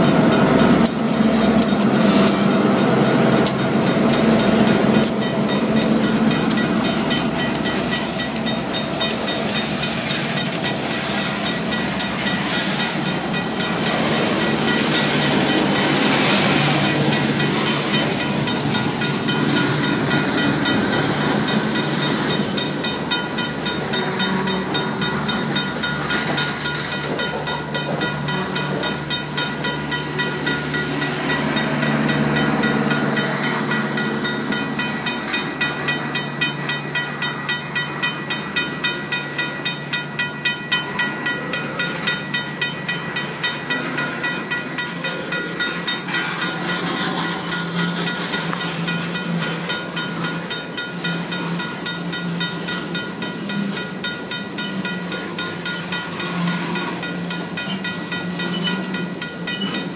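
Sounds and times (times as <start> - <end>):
crossing bell ringing: 0.0 - 59.9
freight train wheels on rails: 0.0 - 59.9.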